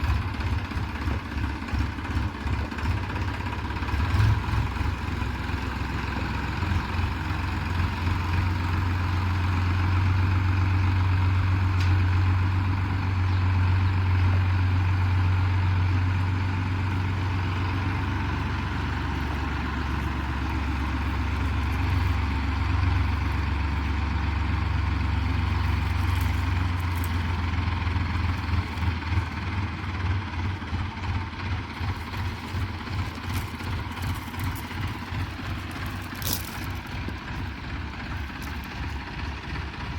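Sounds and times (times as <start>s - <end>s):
tractor engine humming: 0.0s - 39.9s.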